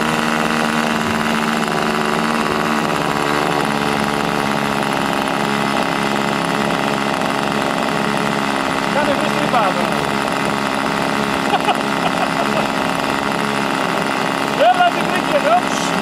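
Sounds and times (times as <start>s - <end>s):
model boat engine idling: 0.0s - 16.0s.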